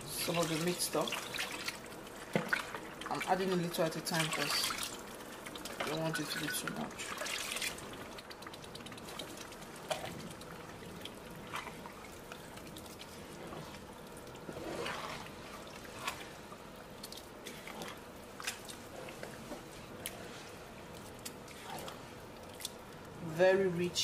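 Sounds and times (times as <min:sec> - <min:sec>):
spatula stirring wet rice: 0:00.1 - 0:23.1.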